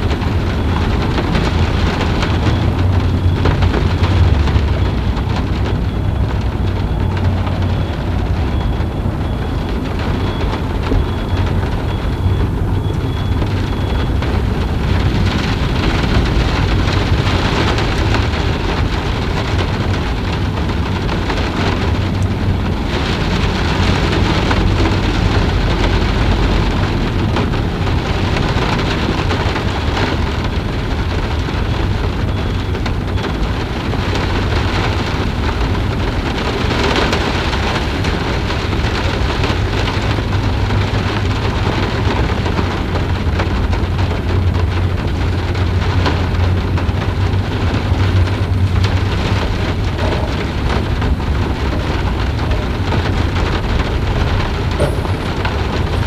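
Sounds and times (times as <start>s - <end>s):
constant low rumble: 0.0s - 56.0s.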